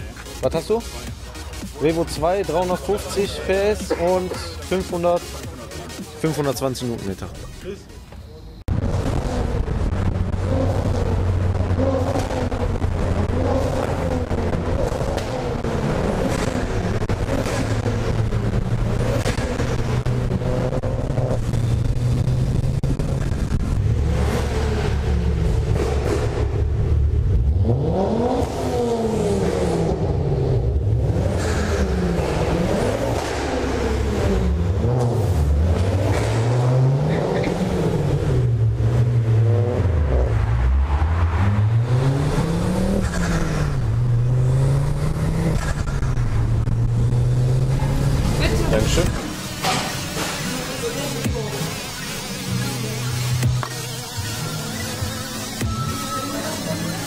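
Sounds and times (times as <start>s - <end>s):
car engines revving in a tunnel: 8.3s - 57.0s.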